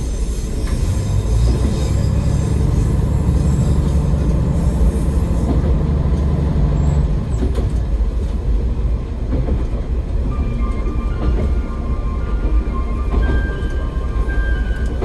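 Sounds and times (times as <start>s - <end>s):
rail-joint clicks: 0.0s - 15.0s
railcar engine and wheels rumbling: 0.0s - 15.0s.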